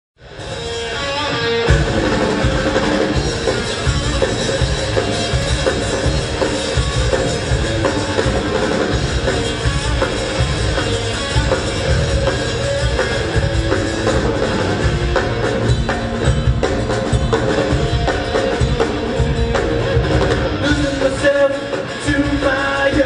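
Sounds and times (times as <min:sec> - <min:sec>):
bass guitar: 0:00.2 - 0:23.0
drum kit: 0:00.2 - 0:23.0
live rock band playing: 0:00.2 - 0:23.0.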